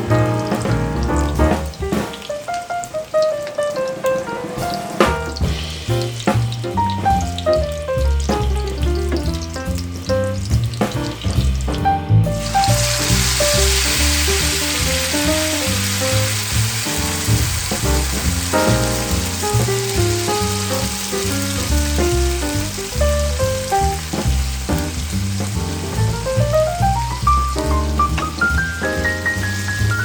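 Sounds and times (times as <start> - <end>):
background music with bass line: 0.0 - 2.2, 5.0 - 30.0
food sizzling in a frying pan: 0.0 - 11.8, 12.4 - 30.0.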